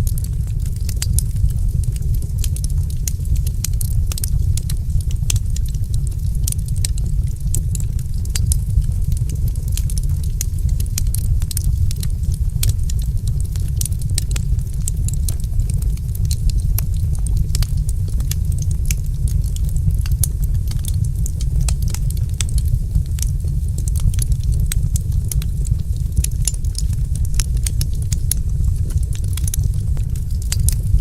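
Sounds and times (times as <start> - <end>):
low rumble: 0.0 - 31.0
wood fire crackling: 0.0 - 31.0.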